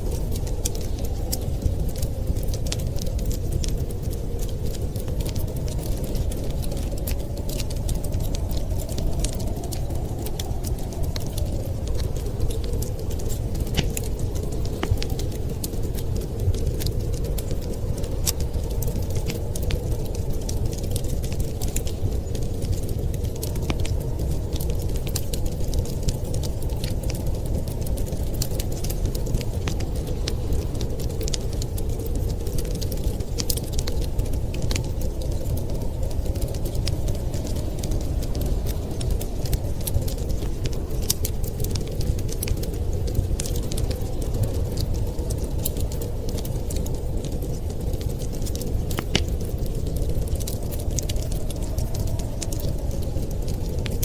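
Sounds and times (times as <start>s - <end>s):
storm wind rushing: 0.0s - 54.0s
wood fire crackling: 0.0s - 54.0s
sharp pops and snaps: 0.1s - 54.0s.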